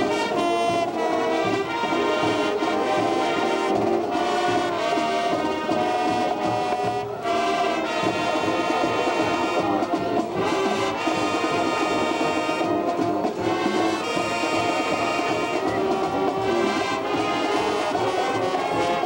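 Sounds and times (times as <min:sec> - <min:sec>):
marching band playing brass music: 0:00.0 - 0:19.0.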